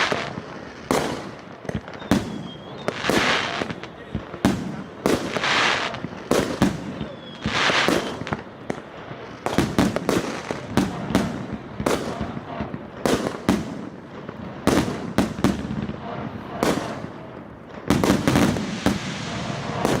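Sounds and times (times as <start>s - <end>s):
fireworks crackle: 0.0s - 20.0s.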